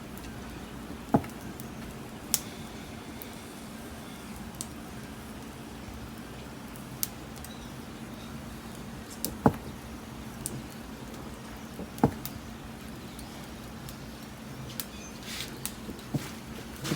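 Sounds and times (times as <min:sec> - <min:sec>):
fire crackling and popping: 0:00.0 - 0:16.9.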